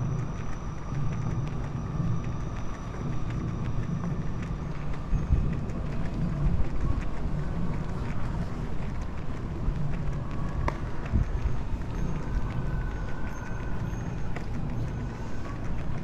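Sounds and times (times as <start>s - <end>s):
faint footsteps on pavement: 0.0s - 16.0s
low rumble of traffic: 0.0s - 16.0s.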